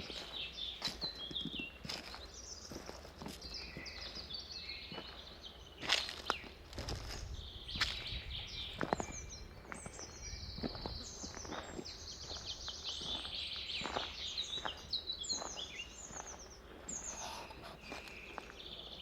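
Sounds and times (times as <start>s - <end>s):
soft footsteps on forest path: 0.0s - 19.0s
songbirds trilling and chirping: 0.0s - 19.0s.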